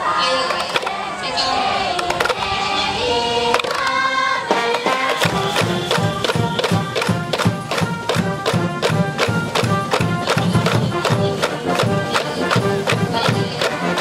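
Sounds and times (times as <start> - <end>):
brass band playing: 0.0 - 14.0
drums beating: 2.0 - 2.8, 3.5 - 14.0.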